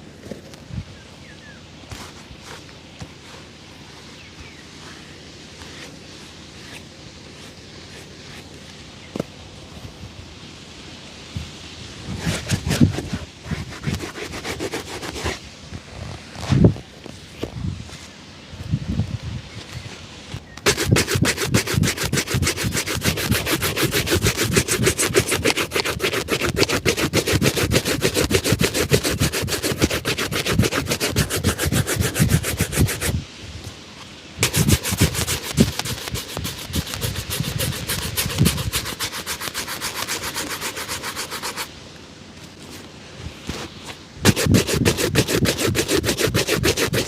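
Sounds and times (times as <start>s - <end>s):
rubbing strokes on leather shoe: 1.9s - 10.0s, 11.5s - 18.2s, 19.6s - 41.8s, 42.4s - 47.0s.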